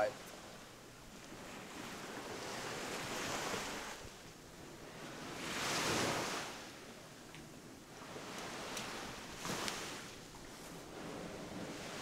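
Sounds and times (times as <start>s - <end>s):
waves breaking on sandy shore: 0.0s - 12.0s.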